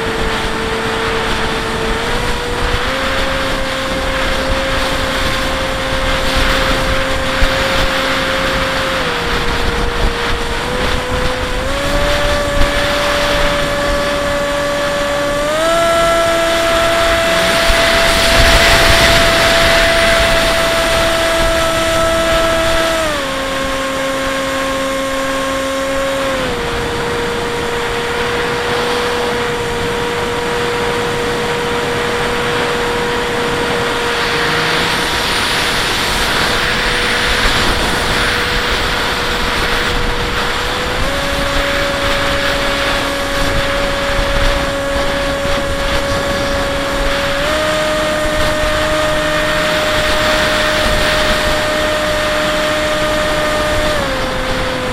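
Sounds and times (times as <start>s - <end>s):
electric motor and propeller whining: 0.0s - 54.9s
wind rushing over microphone: 0.0s - 54.9s.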